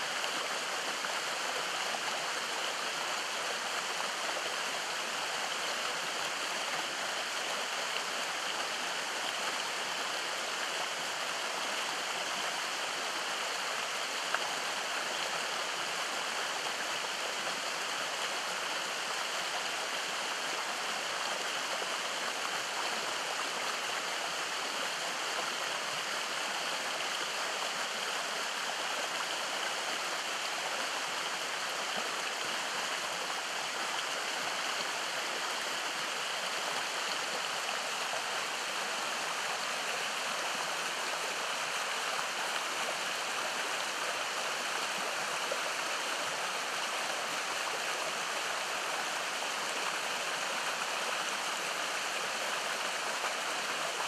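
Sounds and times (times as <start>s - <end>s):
creek water rushing over stones: 0.0s - 54.0s.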